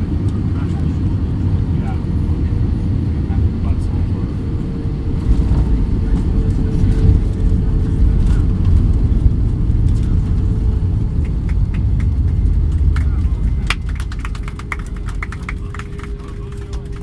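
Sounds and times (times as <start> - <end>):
jet engine noise: 0.0 - 17.0
wheels rumbling on runway: 0.0 - 17.0.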